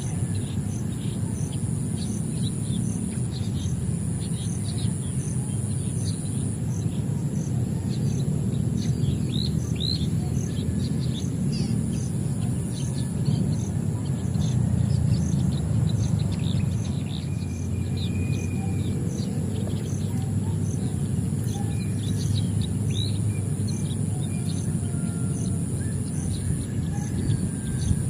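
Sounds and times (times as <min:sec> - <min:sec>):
high insect drone: 0:00.0 - 0:28.0
low background rumble: 0:00.0 - 0:28.0
pulsing insect sound: 0:00.0 - 0:28.0
small birds chirping: 0:00.0 - 0:28.0.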